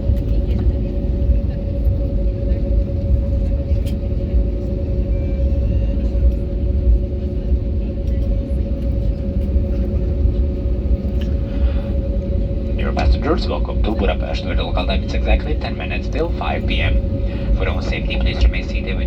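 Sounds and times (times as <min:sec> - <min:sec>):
aircraft cabin rumble: 0:00.0 - 0:19.0
constant hum: 0:00.0 - 0:19.0.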